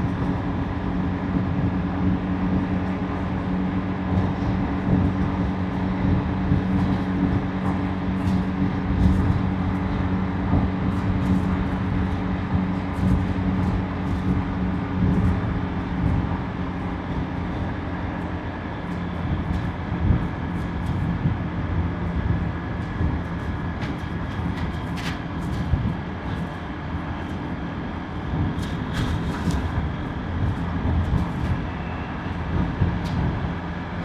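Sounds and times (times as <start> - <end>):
tyre and wind noise: 0.0 - 34.0.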